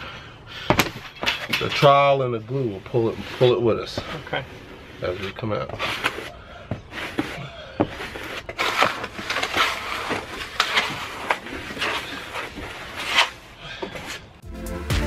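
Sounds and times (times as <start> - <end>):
trowel scraping adhesive: 1.3 - 13.4.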